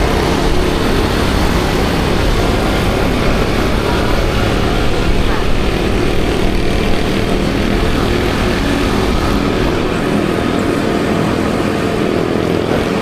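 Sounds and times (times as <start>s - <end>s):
scooter engine hum: 0.0s - 13.0s
wind rumble on microphone: 0.0s - 13.0s.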